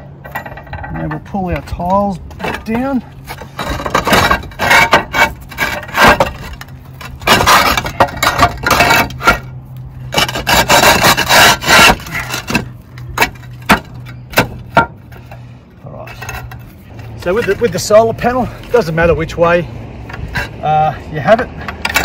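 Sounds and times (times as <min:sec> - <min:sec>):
roof tiles clacking: 0:00.2 - 0:18.9
roof tiles scraping: 0:00.3 - 0:19.1.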